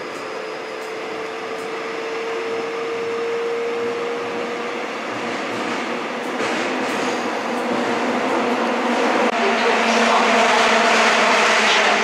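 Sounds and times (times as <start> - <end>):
subway train running: 0.0 - 12.0
train whine: 0.0 - 12.0.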